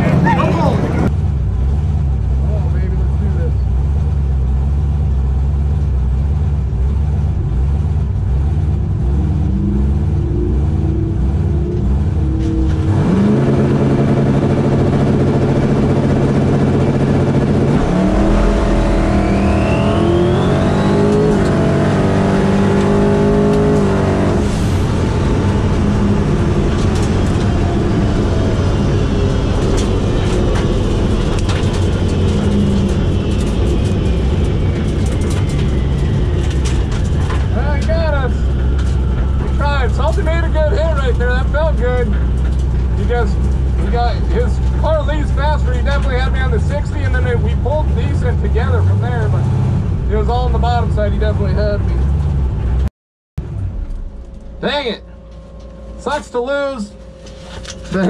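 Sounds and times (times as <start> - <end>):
turbo whine: 0.0 - 51.2, 52.8 - 58.0
race car engine revving: 0.0 - 58.0
wind and road noise: 0.0 - 58.0.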